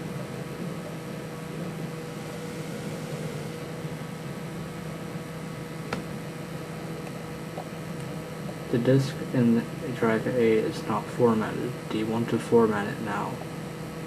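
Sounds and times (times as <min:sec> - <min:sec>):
desktop computer humming: 0:00.0 - 0:14.0.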